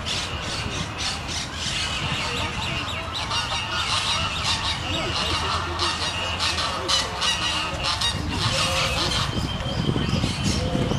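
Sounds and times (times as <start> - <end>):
birds honking and chattering: 0.0 - 10.9.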